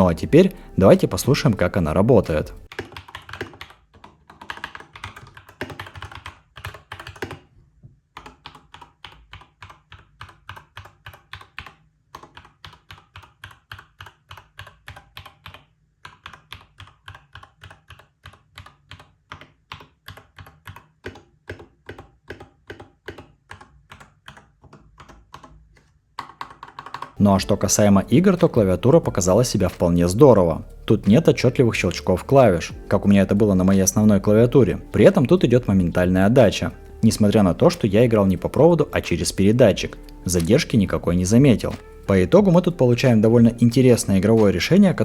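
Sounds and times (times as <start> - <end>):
quiet keyboard keystrokes: 0.0 - 7.5, 8.2 - 45.0.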